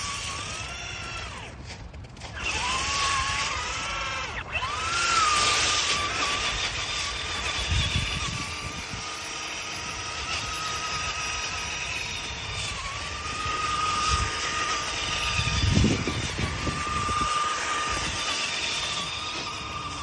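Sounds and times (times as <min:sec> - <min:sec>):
toy car motor whining: 0:00.0 - 0:20.0.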